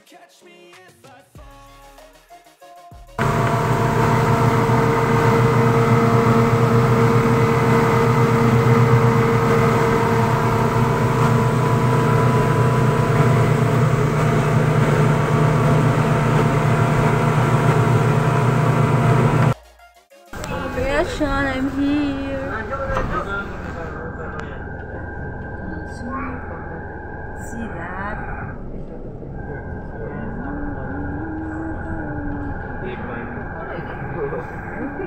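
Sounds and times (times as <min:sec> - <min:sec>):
boat engine drone: 0:03.2 - 0:19.6, 0:20.4 - 0:35.0.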